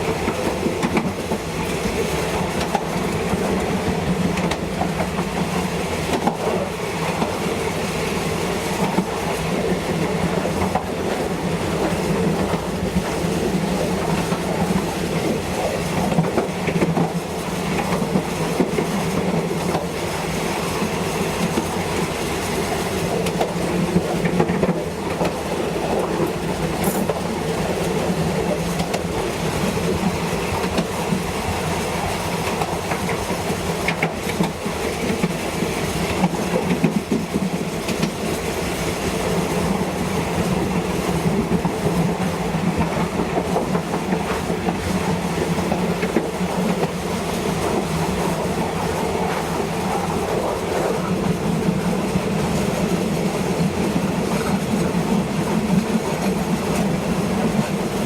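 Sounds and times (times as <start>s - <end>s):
train rumbling: 0.0s - 58.0s
wheels clattering over rail joints: 8.8s - 58.0s.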